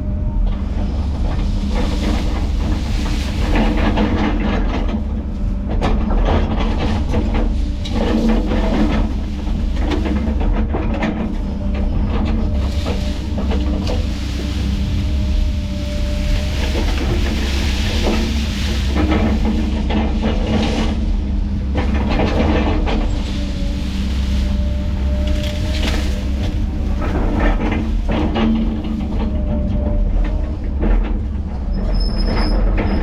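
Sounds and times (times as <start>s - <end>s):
diesel machinery rumbling: 0.0s - 33.0s.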